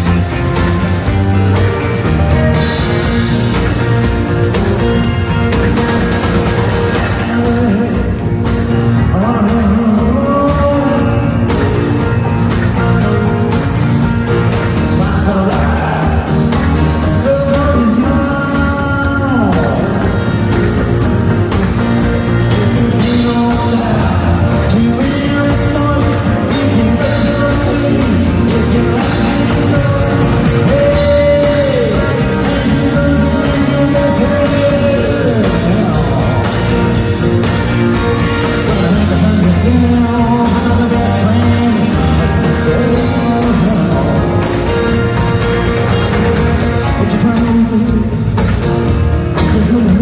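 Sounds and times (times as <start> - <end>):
electric guitars: 0.0 - 50.0
live rock band playing: 0.0 - 50.0
man singing: 0.0 - 50.0
steady drum beat: 0.0 - 50.0.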